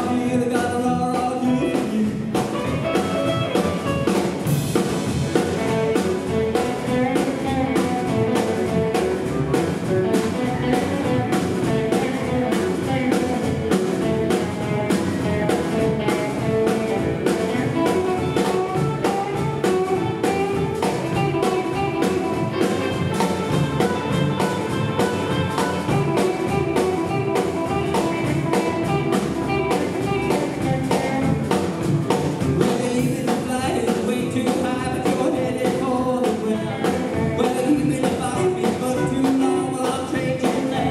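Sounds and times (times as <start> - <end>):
drum kit steady beat: 0.0 - 40.9
electric guitars: 0.0 - 40.9
upright double bass: 0.0 - 40.9.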